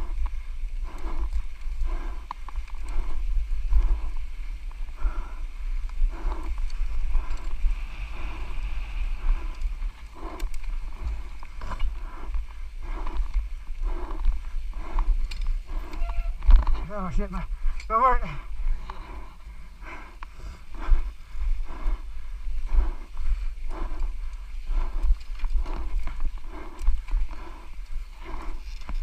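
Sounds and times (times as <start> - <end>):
person panting hard: 0.0 - 29.0
wind rumble on microphone: 0.0 - 29.0.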